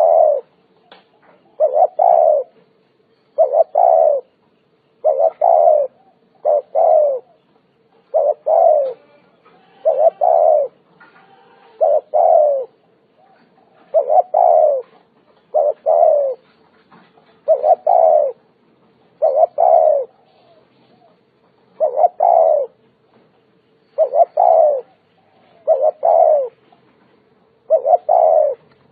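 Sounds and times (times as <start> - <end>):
dove cooing: 0.0 - 2.6, 3.3 - 4.4, 5.0 - 18.5, 19.1 - 22.8, 24.0 - 28.9.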